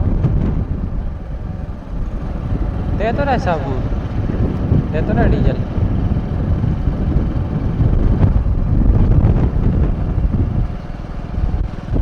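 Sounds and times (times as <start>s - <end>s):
vehicle rumble on the move: 0.0s - 12.0s
wind buffeting microphone: 0.0s - 12.0s.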